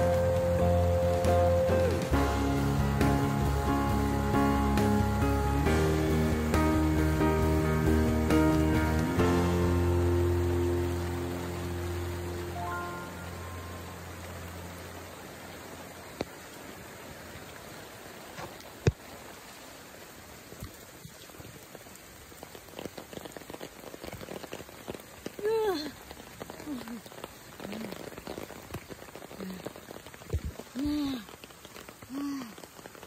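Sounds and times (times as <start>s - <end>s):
rain pattering on path: 0.0s - 33.0s.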